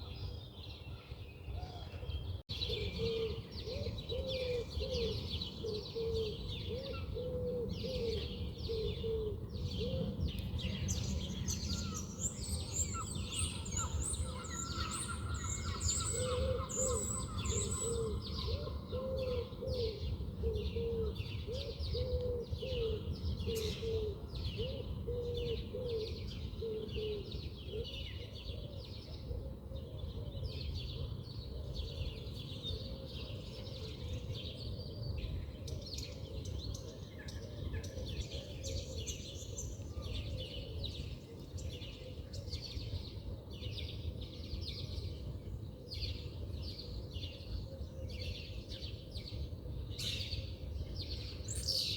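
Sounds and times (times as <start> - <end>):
birds chirping and twittering: 0.0 - 51.9.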